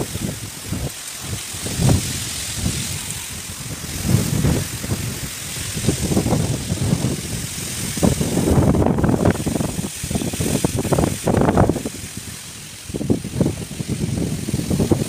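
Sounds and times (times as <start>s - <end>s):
high hiss of wind: 0.0s - 15.0s
storm wind buffeting microphone: 0.0s - 15.0s.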